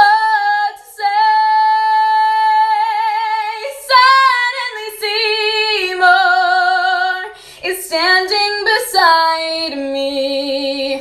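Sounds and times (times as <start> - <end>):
woman singing with vibrato: 0.0 - 11.0.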